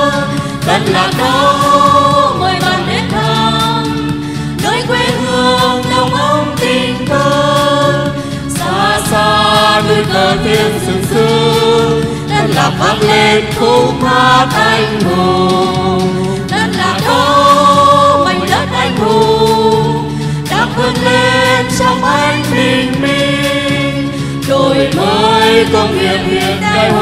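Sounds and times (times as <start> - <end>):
group singing in harmony: 0.0 - 27.0
musical accompaniment: 0.0 - 27.0.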